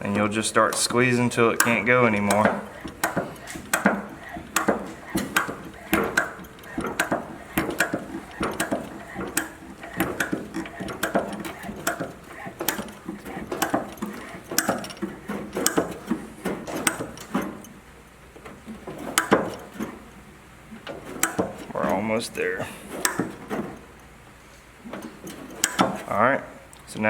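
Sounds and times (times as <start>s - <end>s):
hose crimper clicking: 0.0s - 17.8s, 18.4s - 20.0s, 20.7s - 22.2s, 22.8s - 24.1s, 24.9s - 26.1s.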